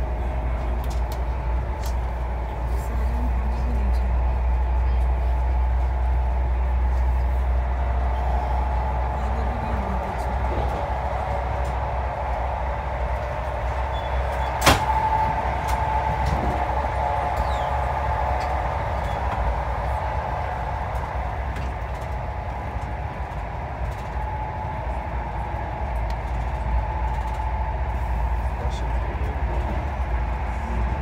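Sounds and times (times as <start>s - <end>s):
faint whining tone: 0.0s - 31.0s
train wheels rumbling on rails: 0.0s - 31.0s.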